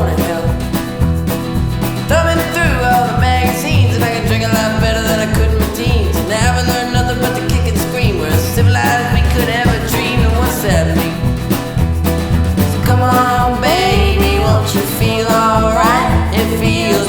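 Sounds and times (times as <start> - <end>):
upbeat country song with vocals: 0.0 - 17.0.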